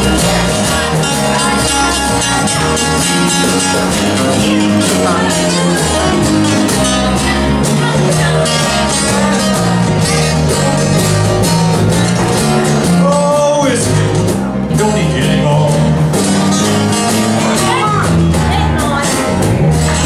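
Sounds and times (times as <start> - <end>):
blues band playing: 0.0 - 20.0.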